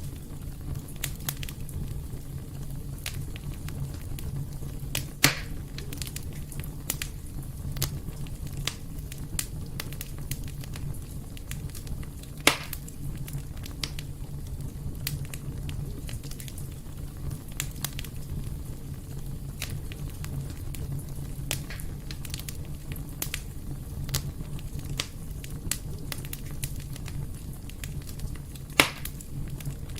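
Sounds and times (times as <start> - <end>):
fire crackling in fireplace: 0.0 - 29.9
sharp fire pops: 0.0 - 29.9.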